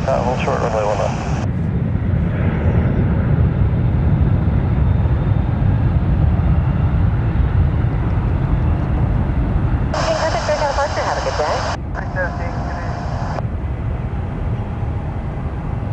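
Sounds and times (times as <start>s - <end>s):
jet engines rumbling: 0.0s - 15.9s.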